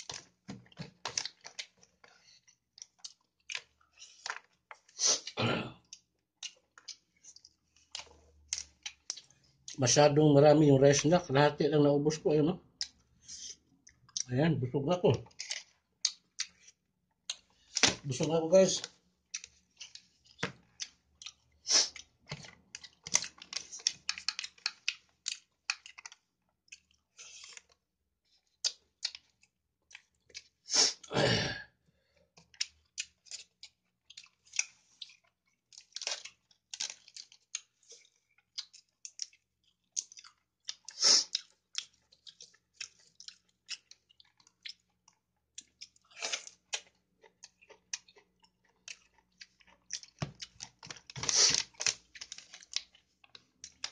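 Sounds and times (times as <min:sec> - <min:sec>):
lettuce crunching: 0:00.0 - 0:09.8, 0:15.2 - 0:30.6, 0:32.4 - 0:53.9
person chewing food: 0:00.0 - 0:09.9, 0:12.6 - 0:14.3, 0:15.2 - 0:53.9.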